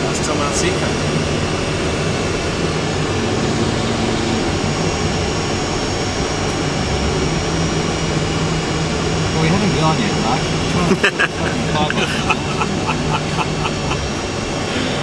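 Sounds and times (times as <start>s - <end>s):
jet engines taxiing hum: 0.0s - 15.0s.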